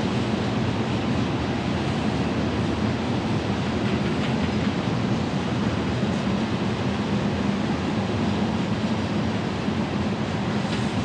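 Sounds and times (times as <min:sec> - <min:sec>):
freight train rolling on rails: 0:00.0 - 0:11.0.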